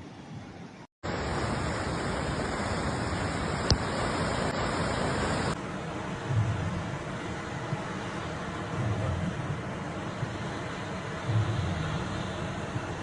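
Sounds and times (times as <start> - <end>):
rushing floodwater: 1.0 - 13.0.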